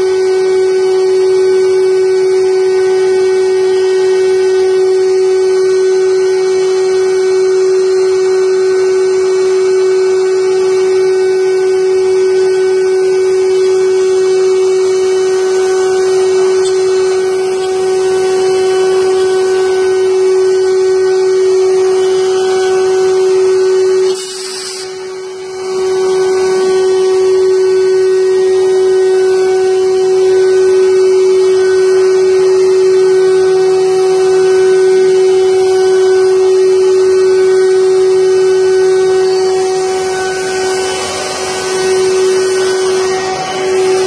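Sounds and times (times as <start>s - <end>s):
wood carving machine whine: 0.0s - 44.0s.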